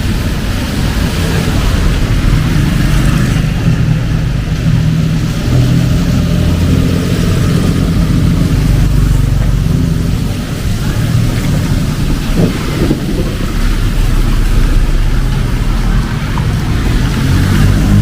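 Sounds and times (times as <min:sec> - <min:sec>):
rain and tyres hissing: 0:00.0 - 0:18.0
vehicle engine humming: 0:00.0 - 0:18.0.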